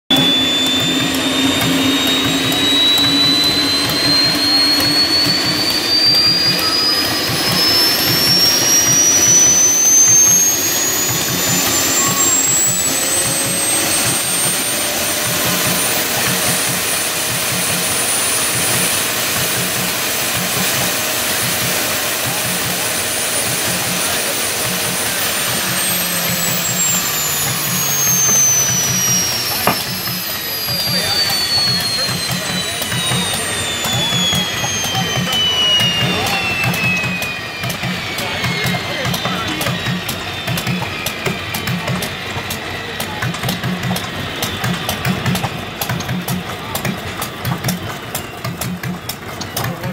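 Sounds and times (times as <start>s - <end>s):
jet engine high whine: 0.0s - 49.9s.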